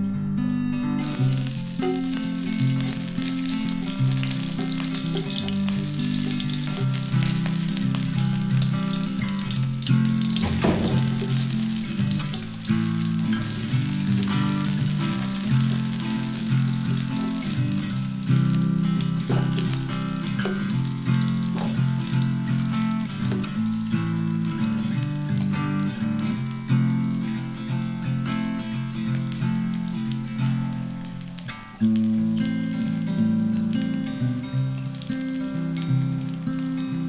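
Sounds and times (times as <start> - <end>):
acoustic guitar music: 0.0 - 37.0
food sizzling in oil: 1.0 - 37.0.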